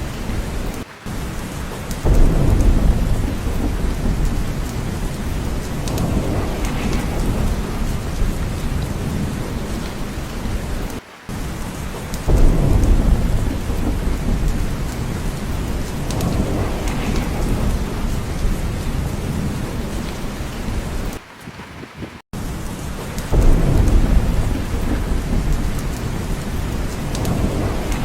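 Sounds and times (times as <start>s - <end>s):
heavy rain: 0.0s - 28.0s
thunder rumbling: 0.0s - 28.0s.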